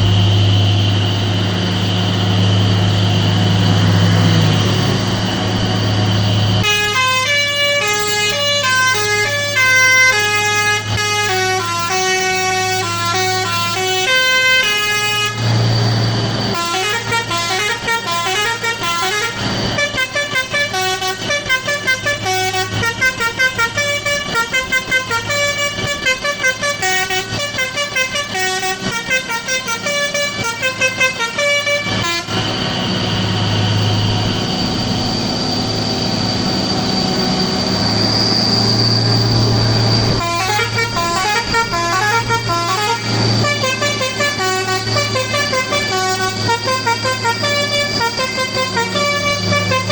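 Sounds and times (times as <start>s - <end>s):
engine drone: 0.0s - 49.9s
musical air horn melody: 2.5s - 15.8s, 16.4s - 33.5s, 38.9s - 49.9s.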